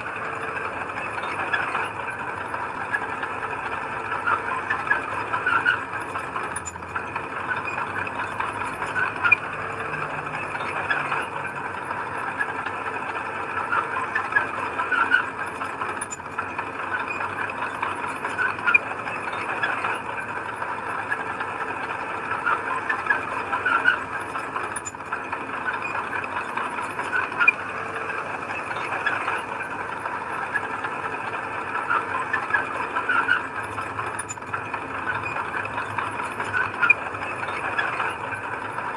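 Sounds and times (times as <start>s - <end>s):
heavy machinery running: 0.0s - 38.9s.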